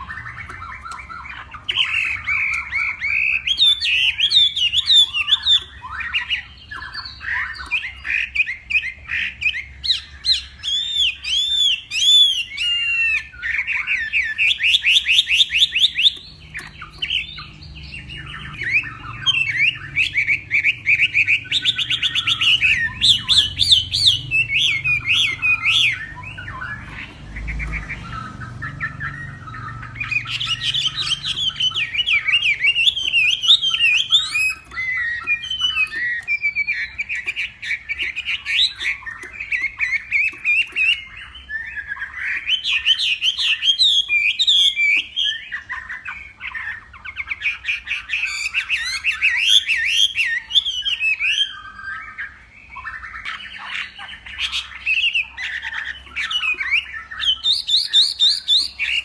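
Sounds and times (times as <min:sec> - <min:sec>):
bird singing warbled song: 0:00.0 - 0:59.0.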